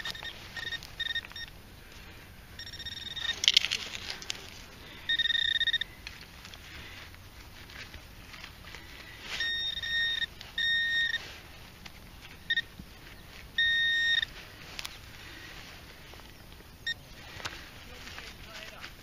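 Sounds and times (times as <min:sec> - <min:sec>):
metal detector beeping: 0:00.0 - 0:07.2, 0:08.5 - 0:19.0.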